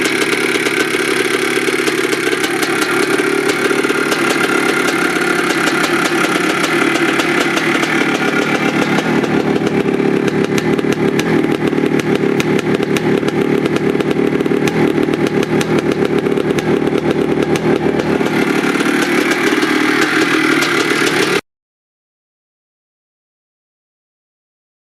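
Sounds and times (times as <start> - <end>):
two-stroke engine running: 0.0 - 21.4.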